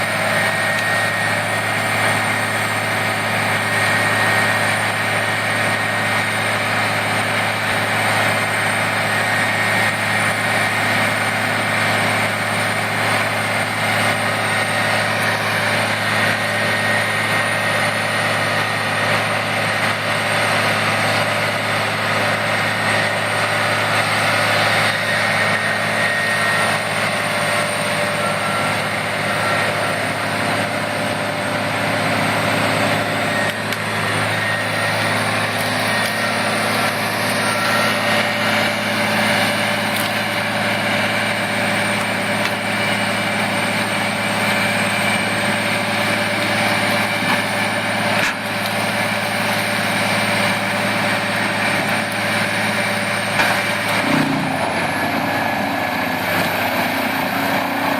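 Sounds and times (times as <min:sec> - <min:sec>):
large engine running: 0:00.0 - 0:57.9.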